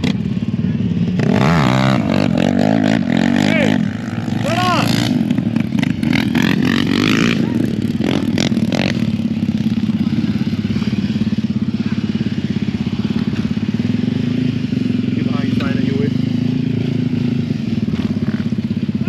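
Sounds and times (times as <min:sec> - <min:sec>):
off-road vehicle engine idling: 0:00.0 - 0:19.0.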